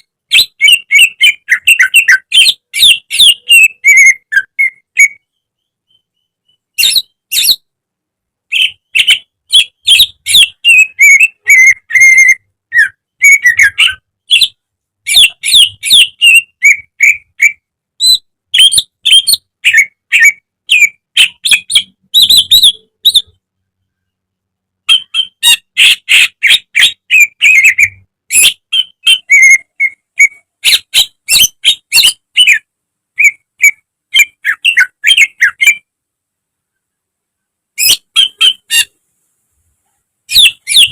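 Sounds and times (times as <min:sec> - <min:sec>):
bird singing chirps and whistles: 0:00.0 - 0:07.7, 0:08.5 - 0:23.4, 0:24.9 - 0:32.6, 0:33.2 - 0:35.8, 0:37.8 - 0:38.9, 0:40.3 - 0:40.9.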